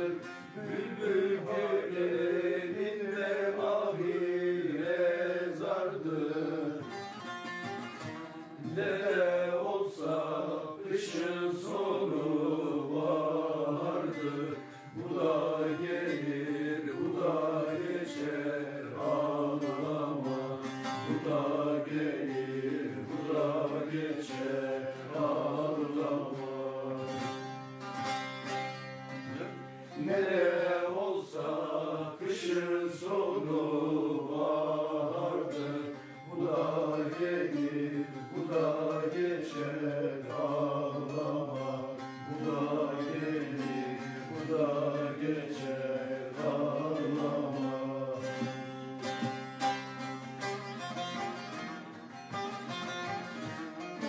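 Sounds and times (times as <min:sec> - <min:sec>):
long-necked lutes playing folk tune: 0:00.0 - 0:54.0.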